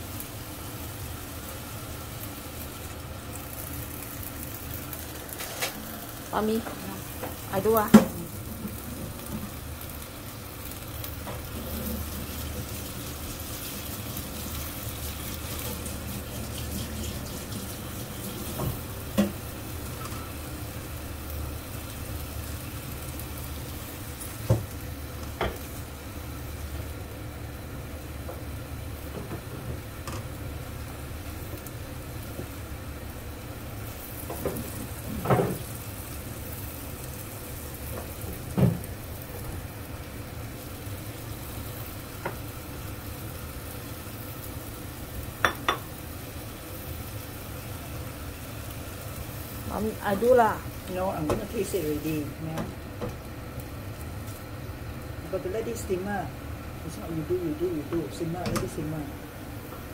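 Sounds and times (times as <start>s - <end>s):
vegetables sizzling in a wok: 0.0s - 59.9s.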